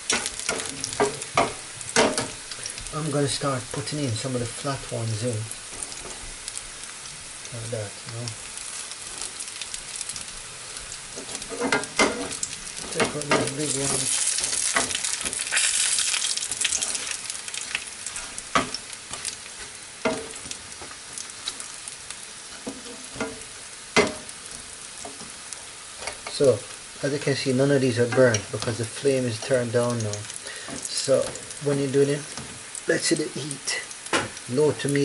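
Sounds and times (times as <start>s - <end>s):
plantain sizzling in oil: 0.0s - 35.0s.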